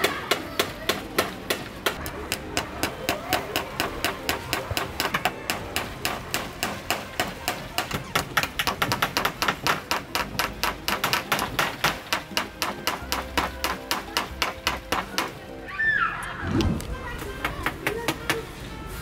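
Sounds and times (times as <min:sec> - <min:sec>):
hammer striking nails: 0:00.0 - 0:15.4.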